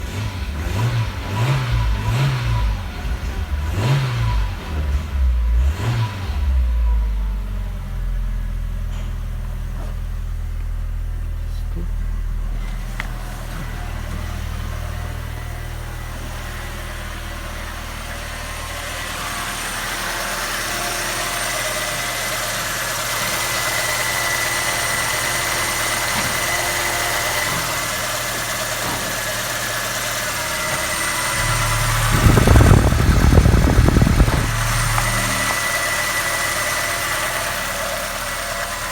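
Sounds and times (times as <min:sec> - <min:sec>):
petrol engine idling: 0:06.3 - 0:38.9.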